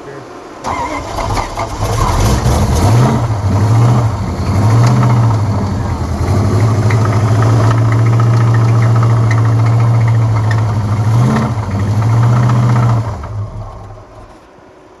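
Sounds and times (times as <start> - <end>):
car engine idling with knock: 1.1 - 14.5.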